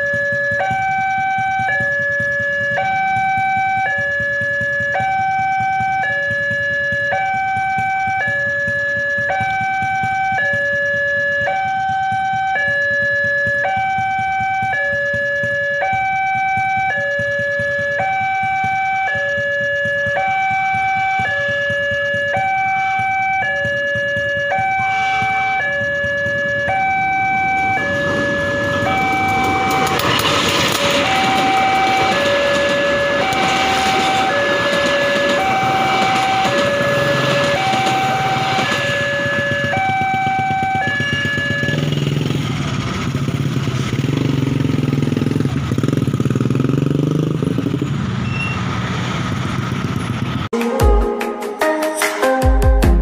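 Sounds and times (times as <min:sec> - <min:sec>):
train rumbling: 0:00.0 - 0:50.5
two-tone crossing alarm: 0:00.0 - 0:50.5
vehicle engines humming: 0:00.0 - 0:50.6.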